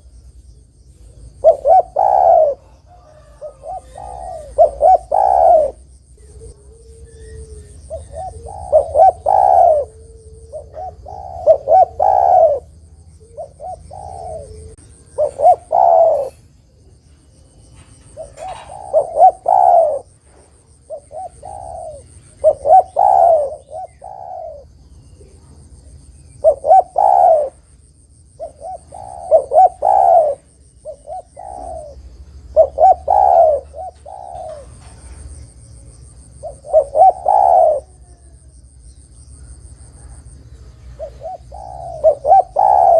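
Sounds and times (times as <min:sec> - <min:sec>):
dove cooing: 0:00.9 - 0:38.7, 0:39.3 - 0:42.9.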